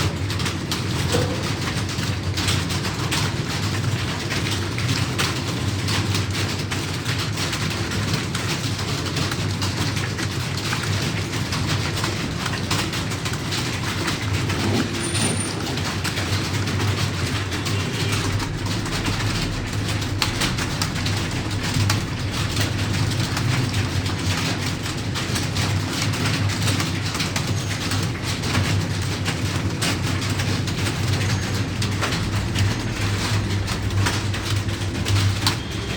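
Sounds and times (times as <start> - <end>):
keyboards typing clatter: 0.0 - 35.9.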